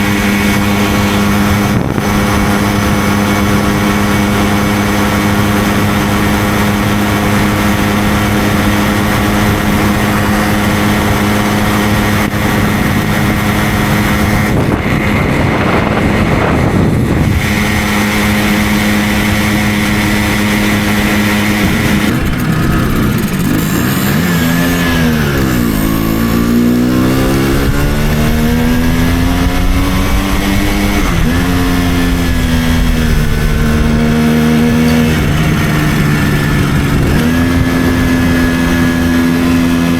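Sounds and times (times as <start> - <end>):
two-stroke moped engine: 0.0 - 39.9.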